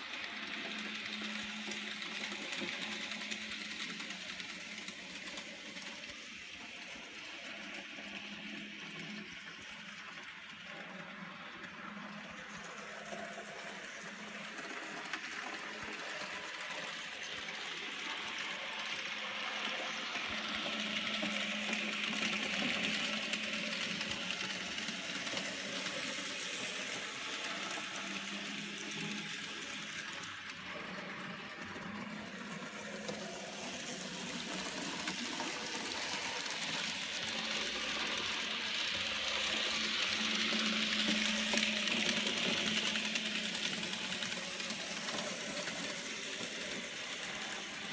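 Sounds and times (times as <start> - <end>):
model train motor whirring: 0.0 - 47.9.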